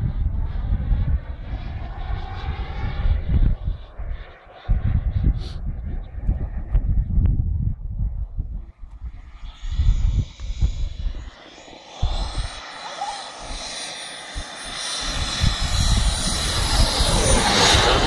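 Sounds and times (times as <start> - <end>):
model jet engine whine: 0.0 - 7.0, 8.8 - 18.0
wind rumble on microphone: 0.0 - 18.0.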